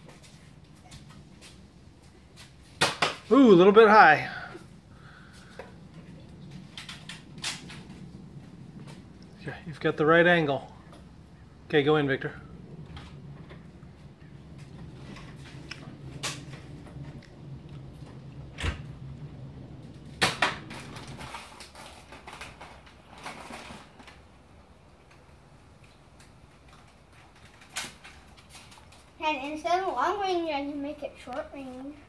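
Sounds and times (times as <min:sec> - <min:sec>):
low hum: 0:00.0 - 0:26.8.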